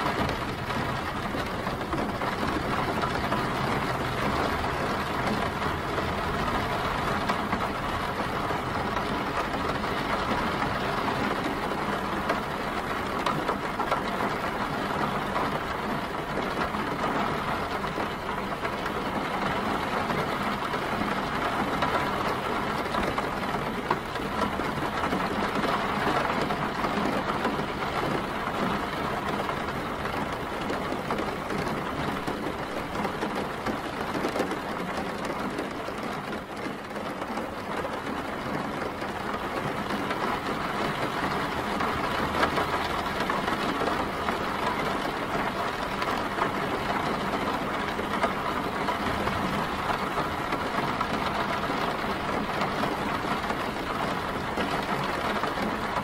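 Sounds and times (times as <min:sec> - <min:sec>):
city traffic rumble: 0:00.0 - 0:56.0
rain pattering on umbrella: 0:00.0 - 0:56.0.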